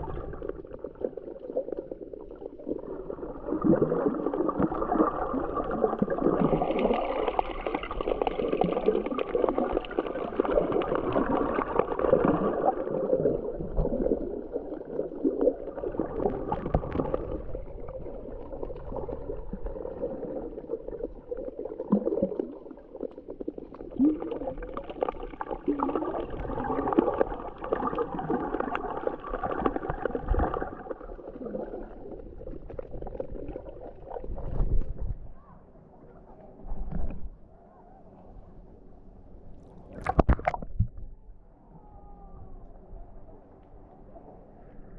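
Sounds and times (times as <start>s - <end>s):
underwater water gurgling and sloshing: 0.0s - 44.9s.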